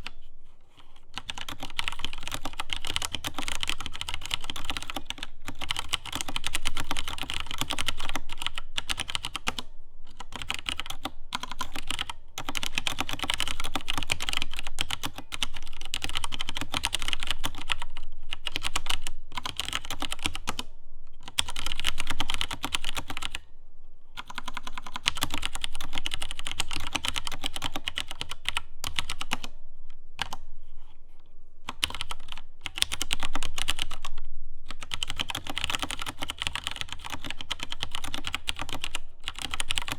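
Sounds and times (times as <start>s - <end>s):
mechanical keyboard typing: 1.2s - 23.4s, 24.2s - 29.6s, 30.2s - 30.4s, 31.7s - 39.9s.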